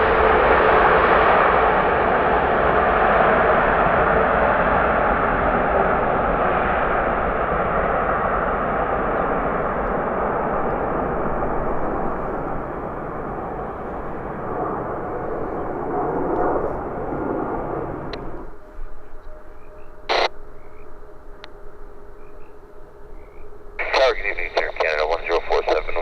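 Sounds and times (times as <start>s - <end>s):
jet airliner engine rush: 0.0s - 20.3s, 23.8s - 26.0s.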